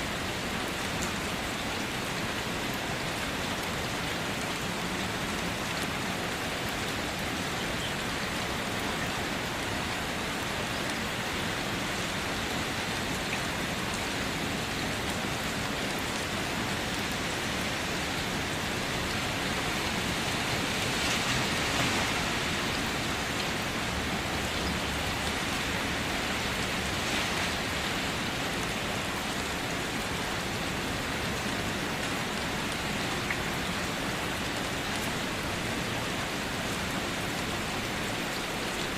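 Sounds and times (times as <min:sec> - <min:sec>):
rain on a car roof: 0:00.0 - 0:38.9.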